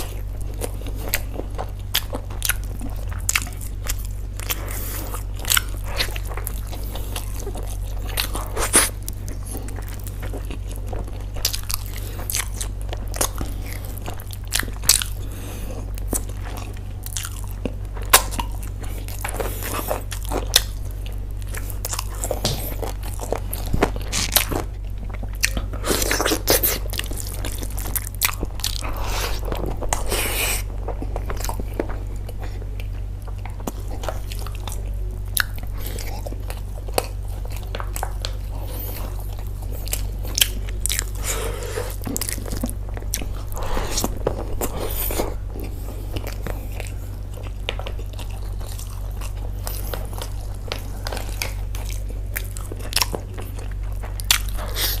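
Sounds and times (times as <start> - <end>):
person chewing food: 0.0 - 55.0
steady low hum: 0.0 - 55.0.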